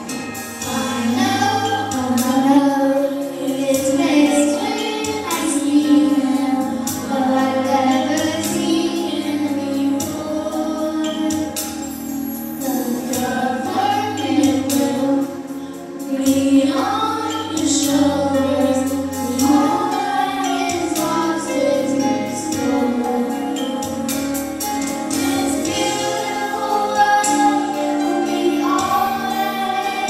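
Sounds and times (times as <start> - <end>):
choir singing: 0.0 - 11.6, 12.6 - 24.1, 25.0 - 30.0
instrumental accompaniment with percussion: 0.0 - 30.0.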